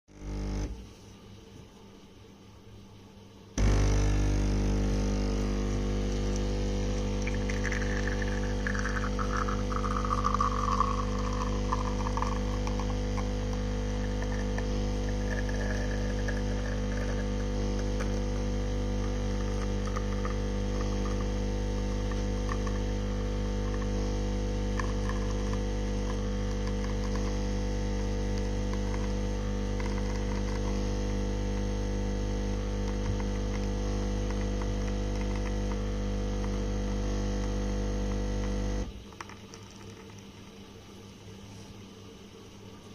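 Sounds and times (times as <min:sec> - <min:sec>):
espresso machine pump humming: 0:00.1 - 0:00.8, 0:03.6 - 0:40.6.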